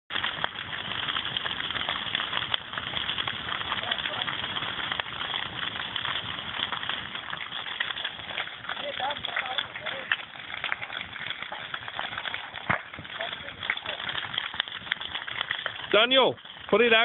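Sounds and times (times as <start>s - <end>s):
large fire crackling and popping: 0.0s - 17.0s.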